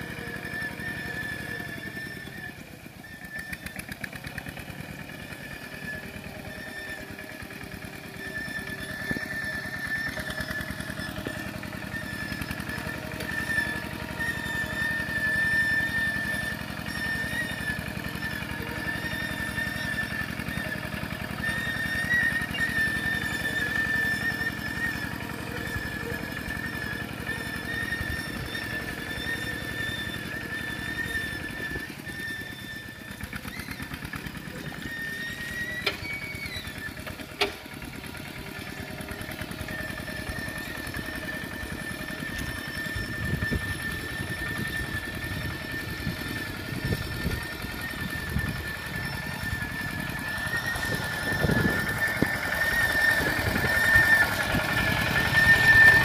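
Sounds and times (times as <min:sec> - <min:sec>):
diesel engine running under load: 0:00.0 - 0:56.0
high-pitched squeal: 0:00.0 - 0:56.0.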